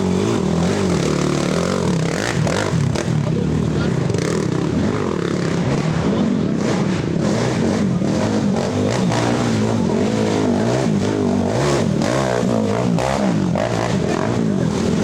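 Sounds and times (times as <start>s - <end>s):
racing quad engines revving: 0.0s - 15.0s.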